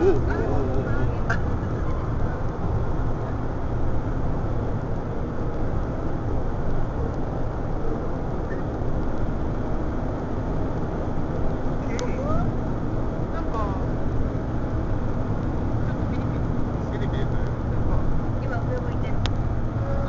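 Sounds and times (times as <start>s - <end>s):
van engine and road noise: 0.0s - 20.0s.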